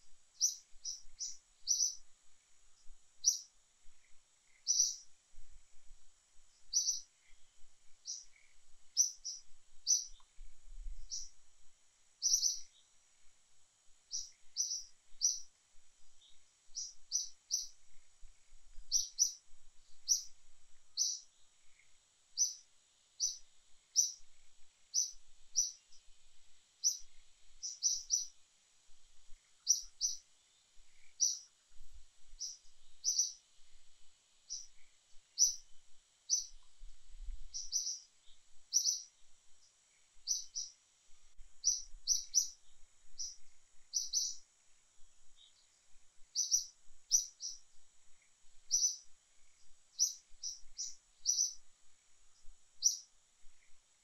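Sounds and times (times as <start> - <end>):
bird chirping: 0.4 - 5.1, 6.5 - 11.4, 12.2 - 13.0, 14.1 - 15.5, 16.1 - 26.1, 26.8 - 28.4, 29.3 - 33.5, 34.4 - 36.8, 37.4 - 40.8, 41.6 - 44.5, 45.2 - 51.6, 52.4 - 53.8.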